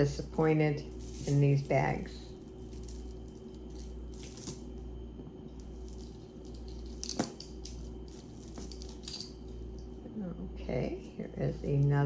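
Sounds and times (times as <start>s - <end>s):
jewelry clicking and rattling: 0.0s - 10.1s
low hum: 0.0s - 12.0s.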